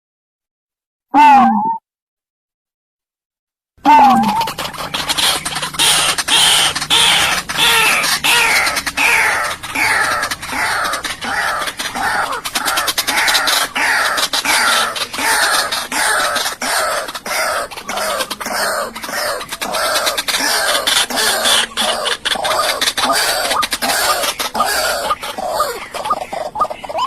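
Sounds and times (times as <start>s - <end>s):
bird harsh croaking calls: 3.9s - 27.0s.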